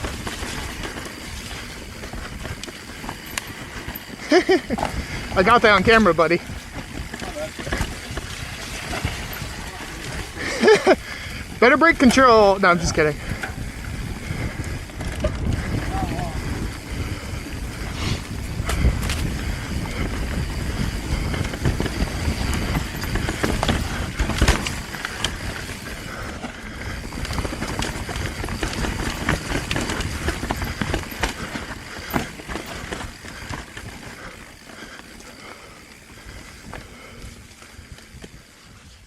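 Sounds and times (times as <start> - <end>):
bike clattering clicks and knocks: 0.0 - 38.4
bike tyre noise: 0.0 - 39.0
wind rumble on microphone: 0.0 - 39.0.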